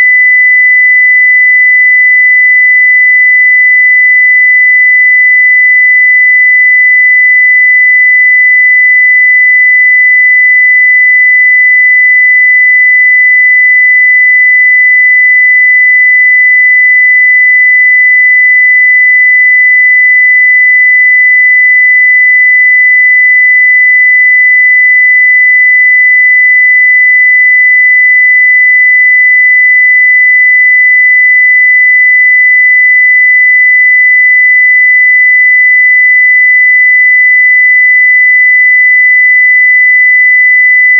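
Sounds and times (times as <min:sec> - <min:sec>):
steady sine-wave test tone: 0:00.0 - 0:40.9.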